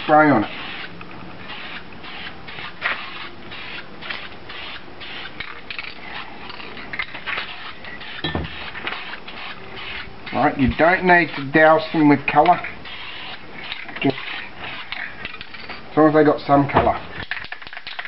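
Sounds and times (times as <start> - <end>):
spray paint can hissing: 0.0 - 15.8.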